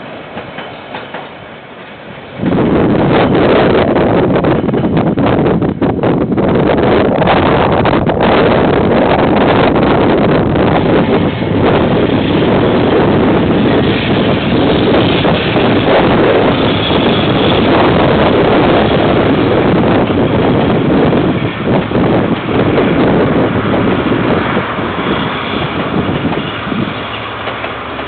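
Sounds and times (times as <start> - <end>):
train passing rumble: 0.0 - 28.0
wind noise: 0.0 - 28.0.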